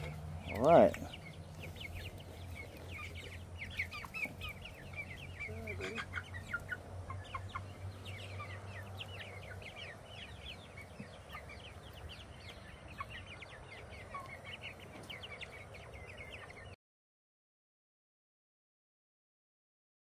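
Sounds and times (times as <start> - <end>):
chicks peeping: 0.0 - 16.8.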